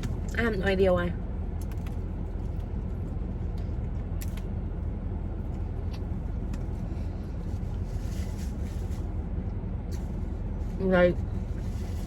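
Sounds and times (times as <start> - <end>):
car air conditioning drone: 0.0 - 12.0.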